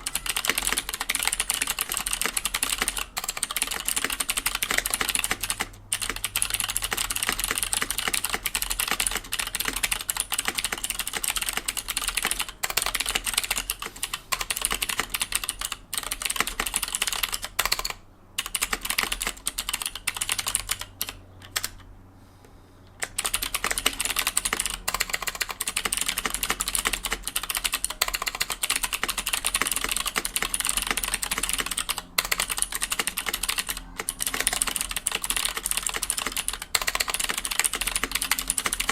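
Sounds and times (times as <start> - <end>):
mechanical keyboard typing: 0.0 - 21.9, 23.0 - 38.9.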